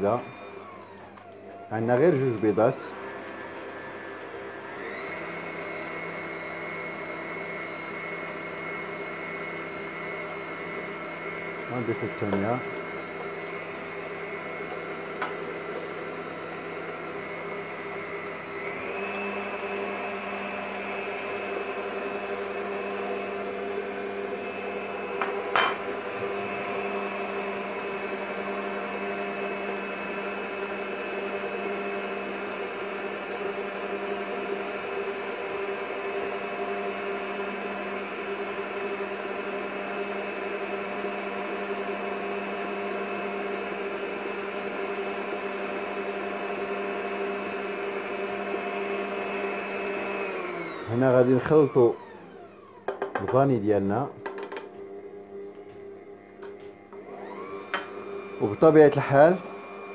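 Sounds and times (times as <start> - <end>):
stand mixer motor whine: 0.0 - 59.9.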